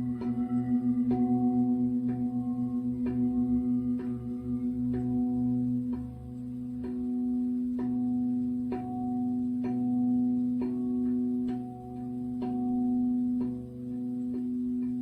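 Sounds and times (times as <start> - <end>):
singing bowl ringing: 0.0 - 15.0
singing bowl strikes: 0.0 - 15.0.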